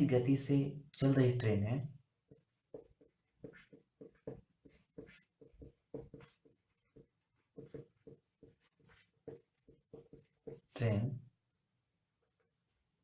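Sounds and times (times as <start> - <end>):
faint writing on a board: 0.0 - 13.0.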